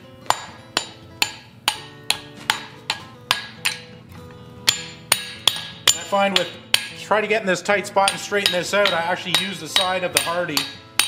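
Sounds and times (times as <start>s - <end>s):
hammer striking hot steel on anvil: 0.2s - 3.9s, 4.6s - 7.2s, 8.0s - 11.0s.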